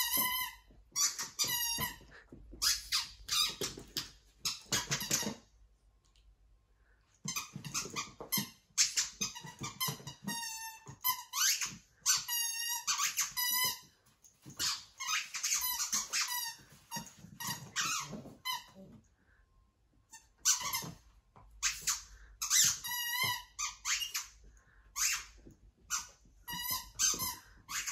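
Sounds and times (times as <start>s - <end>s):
squeaky toy ball squeaking: 0.0s - 5.4s, 7.2s - 13.9s, 14.5s - 18.8s, 20.1s - 21.0s, 21.6s - 24.4s, 25.0s - 27.9s.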